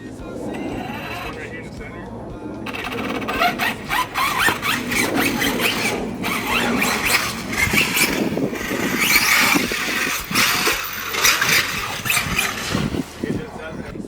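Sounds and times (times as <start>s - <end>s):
electric motor whining in bursts: 0.0s - 14.0s.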